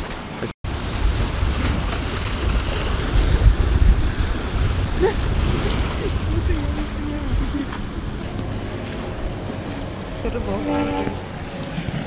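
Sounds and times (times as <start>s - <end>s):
waves splashing on rocks: 0.0s - 12.0s
wind buffeting microphone: 0.7s - 12.0s.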